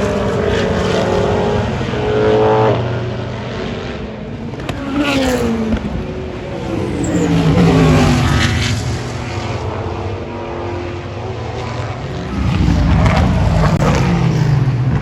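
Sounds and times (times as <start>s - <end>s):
race cars passing at speed: 0.0s - 15.0s.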